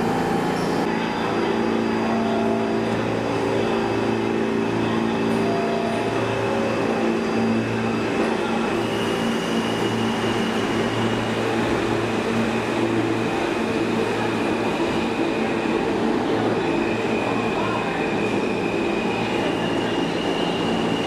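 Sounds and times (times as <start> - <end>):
subway train rumbling: 0.0 - 21.0.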